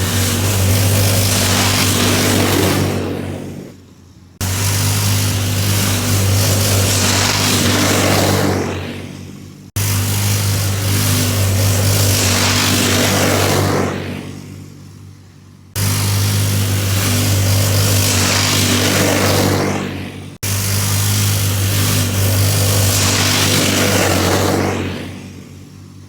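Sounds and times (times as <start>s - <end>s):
snowmobile engine at high revs: 0.0s - 26.0s.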